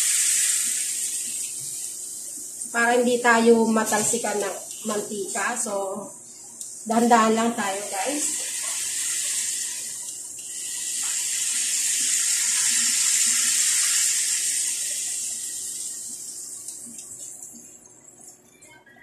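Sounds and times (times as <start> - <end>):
pork sizzling in hot oil: 0.0 - 17.6.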